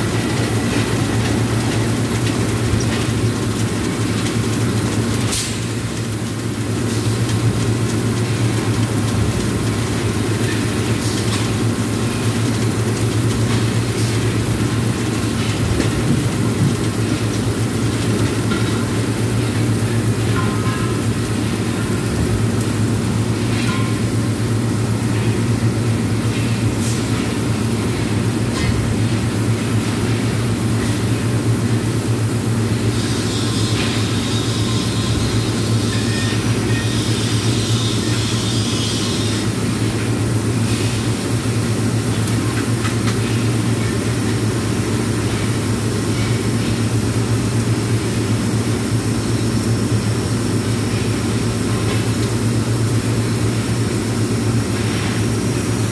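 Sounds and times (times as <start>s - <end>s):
workshop machinery drone: 0.0s - 55.9s.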